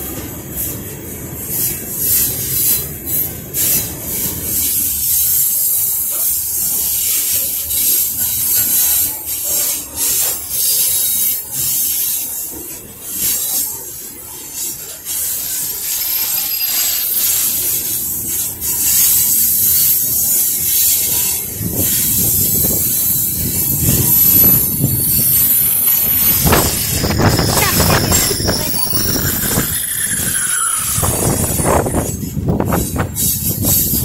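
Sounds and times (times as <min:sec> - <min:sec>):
train wheels hissing on rails: 0:00.0 - 0:34.0
train wheels rumbling and clattering: 0:00.0 - 0:34.0
wheel squeals: 0:01.5 - 0:34.0.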